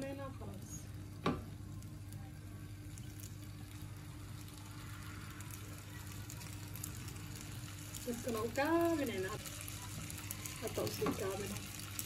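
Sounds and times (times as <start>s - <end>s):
potato slices sizzling in pan: 0.0s - 12.0s
steady low hum: 0.0s - 12.0s.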